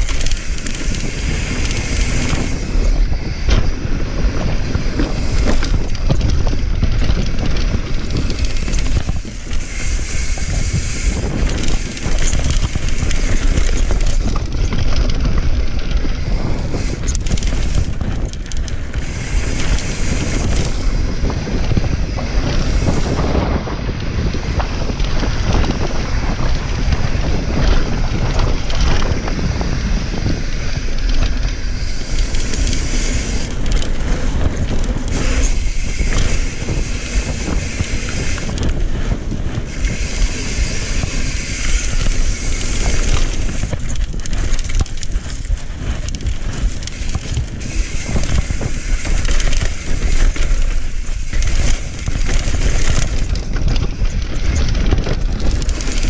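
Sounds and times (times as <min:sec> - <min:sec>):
bike rattling: 0:00.0 - 0:56.0
tyres rumbling over dirt: 0:00.0 - 0:56.0
wind rushing on microphone: 0:00.0 - 0:56.0.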